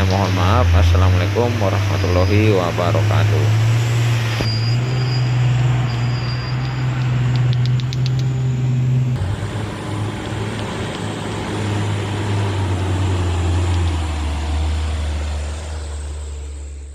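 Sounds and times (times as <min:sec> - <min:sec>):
truck diesel engine running: 0:00.0 - 0:16.9.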